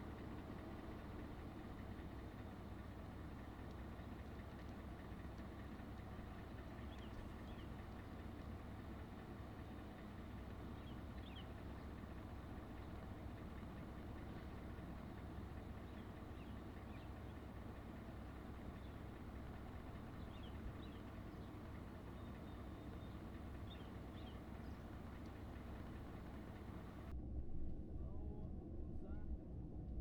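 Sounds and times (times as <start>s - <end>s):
truck engine idling: 0.0s - 27.1s.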